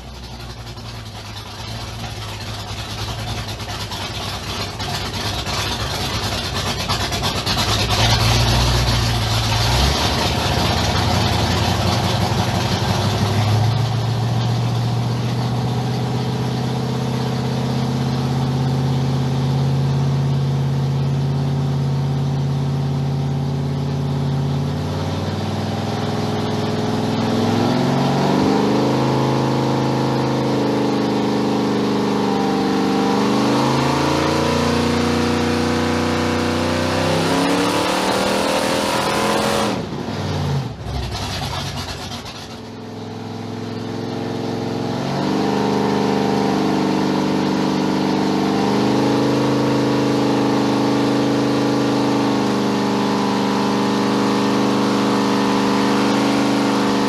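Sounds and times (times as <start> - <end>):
racing engine revving: 5.1 - 21.2, 22.6 - 57.0.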